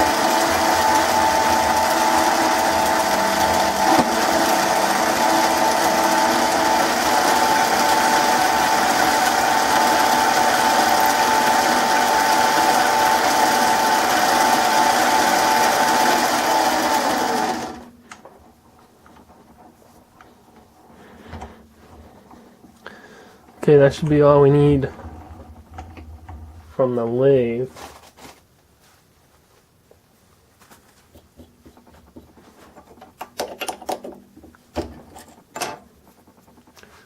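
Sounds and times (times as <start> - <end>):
lathe whining: 0.0 - 26.8, 31.3 - 37.0.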